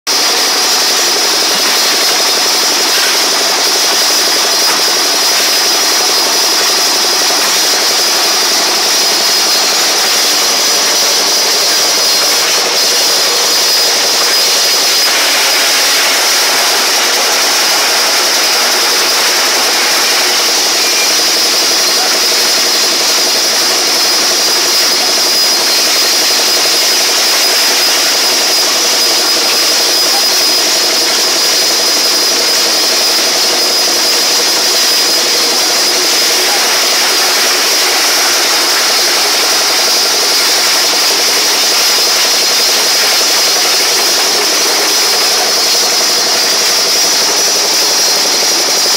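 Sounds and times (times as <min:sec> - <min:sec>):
ice crushing machine grinding: 0:00.1 - 0:48.9.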